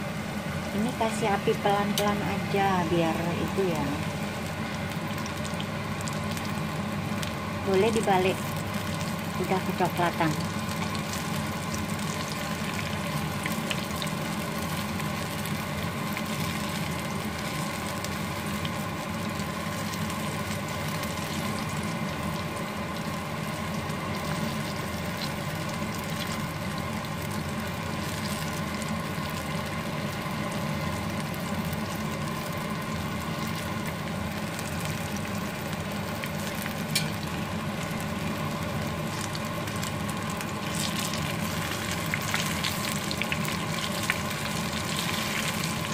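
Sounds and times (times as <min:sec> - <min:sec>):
fritters sizzling in oil: 0:00.0 - 0:45.9
steady hum: 0:00.0 - 0:45.9.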